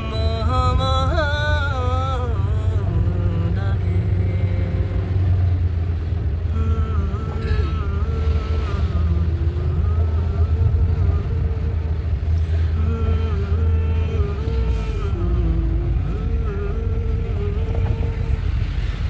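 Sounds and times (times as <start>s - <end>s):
faint melody: 0.0s - 19.0s
vehicle rumble: 0.0s - 19.0s.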